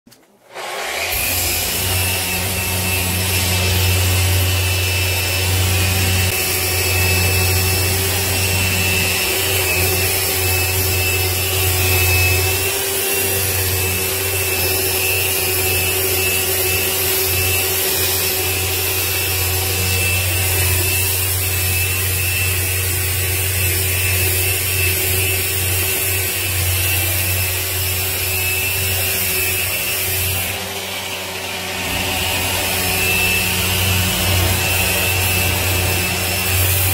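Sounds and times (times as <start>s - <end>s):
electric polisher humming and whining: 0.4s - 36.9s
polishing pad rubbing surface: 0.5s - 36.9s.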